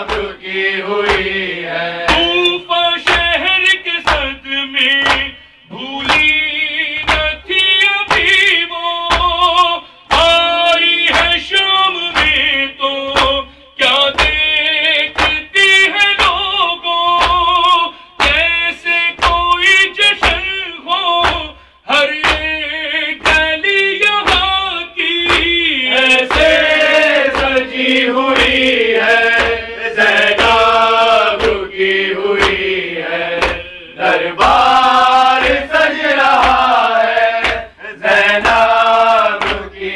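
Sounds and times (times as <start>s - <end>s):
hands beating chests: 0.0s - 0.4s, 1.0s - 39.9s
men chanting a lament: 0.0s - 39.9s.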